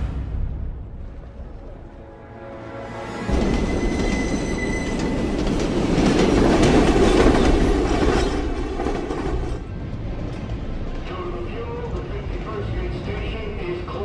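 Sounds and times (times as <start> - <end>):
subway train rushing past: 0.0 - 14.0.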